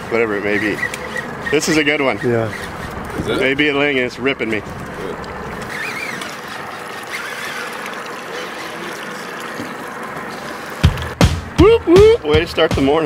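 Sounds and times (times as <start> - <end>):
water washing around boat: 0.0 - 13.0.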